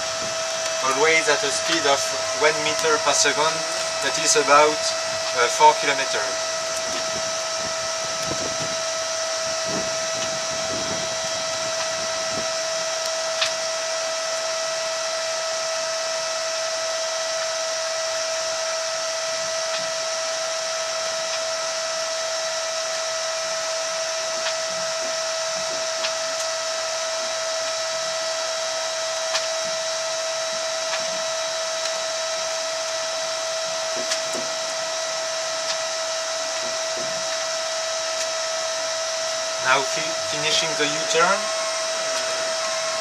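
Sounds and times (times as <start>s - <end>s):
electric motor whine: 0.0s - 43.0s.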